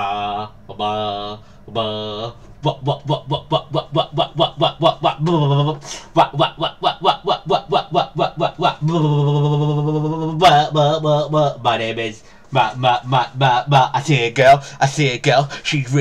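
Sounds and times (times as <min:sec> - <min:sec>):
man singing staccato syllables: 0:00.0 - 0:16.0.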